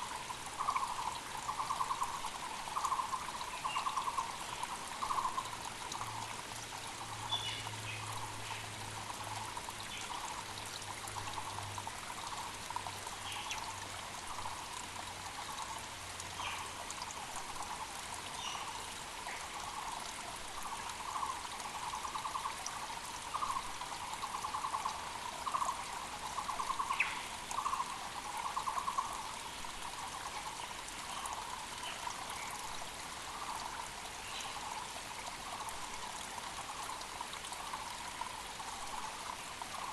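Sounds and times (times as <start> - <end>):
mountain creek rushing: 0.0 - 39.9.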